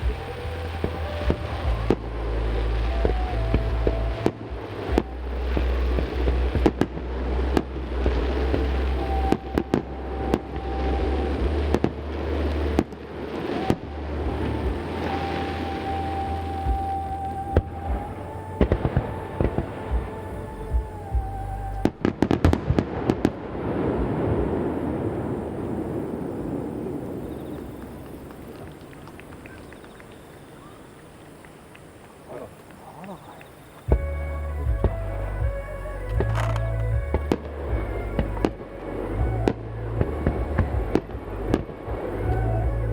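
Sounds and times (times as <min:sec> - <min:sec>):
fireworks bangs: 0:00.0 - 0:42.9
low rumble and crackle: 0:00.0 - 0:42.9.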